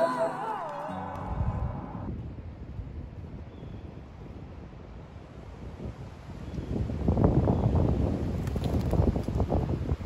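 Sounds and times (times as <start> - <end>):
wind buffeting microphone: 1.2 - 10.0.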